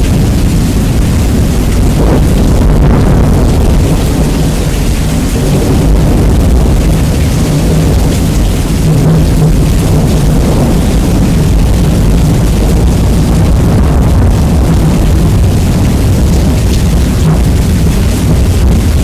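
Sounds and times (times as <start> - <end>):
distorted thunder rumble: 0.0 - 19.0
rain hiss: 0.0 - 19.0.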